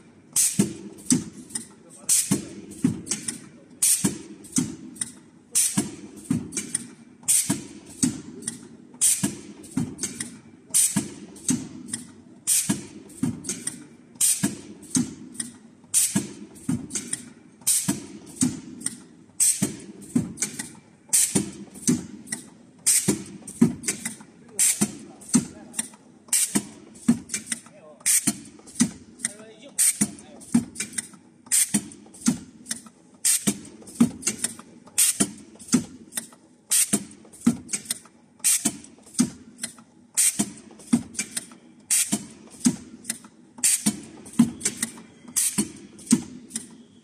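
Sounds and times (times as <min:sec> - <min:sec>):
pneumatic jaws clacking and hissing: 0:00.4 - 0:47.0.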